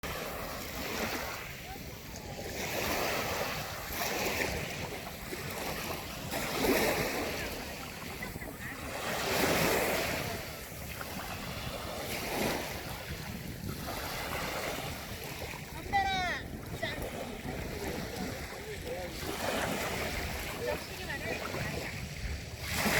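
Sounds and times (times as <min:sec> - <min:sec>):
sea waves breaking ashore: 0:00.0 - 0:22.9
wind noise on microphone: 0:00.0 - 0:22.9.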